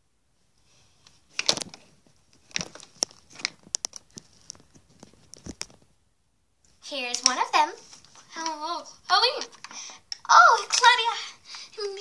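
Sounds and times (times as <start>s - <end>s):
plastic dolls rustling: 0.5s - 6.0s, 6.6s - 12.0s.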